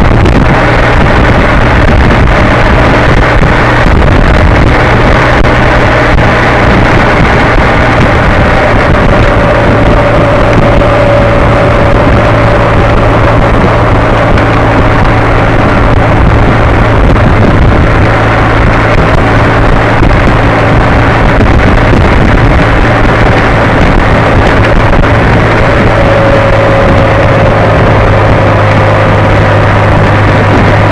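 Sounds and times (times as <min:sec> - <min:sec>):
motorcycle engine cruising: 0:00.0 - 0:30.9
wind rushing over microphone: 0:00.0 - 0:30.9.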